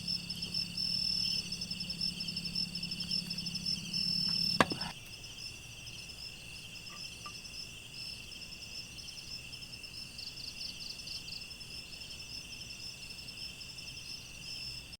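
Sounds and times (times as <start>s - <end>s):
faint background noise: 0.0s - 14.9s
insects trilling: 0.0s - 14.9s.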